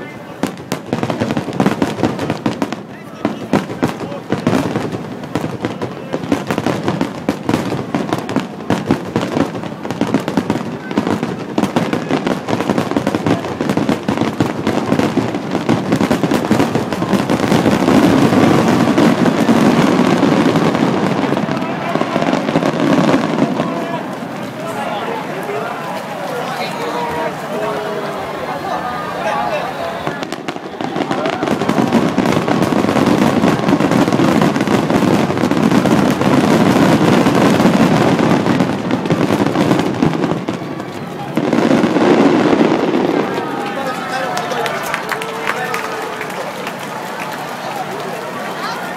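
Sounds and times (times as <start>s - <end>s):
fireworks bursting: 0.0s - 48.9s
fireworks crackling: 0.0s - 48.9s.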